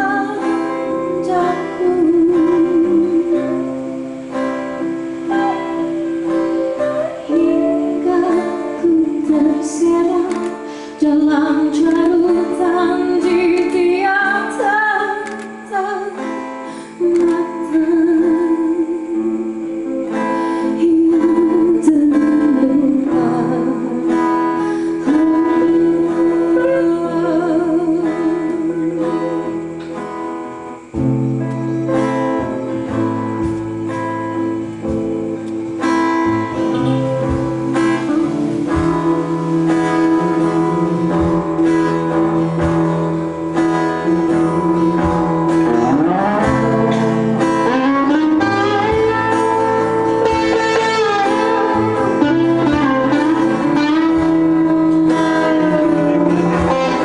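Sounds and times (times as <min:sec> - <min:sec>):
person singing with vibrato: 0:00.0 - 0:30.9, 0:36.4 - 0:57.0
acoustic and electric guitars: 0:00.0 - 0:57.0.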